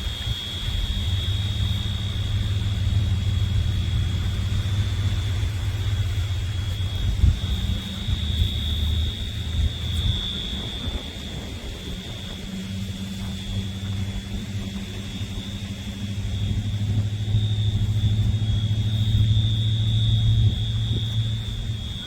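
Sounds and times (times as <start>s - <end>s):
high whine: 0.0s - 22.0s
motor humming: 0.0s - 22.0s.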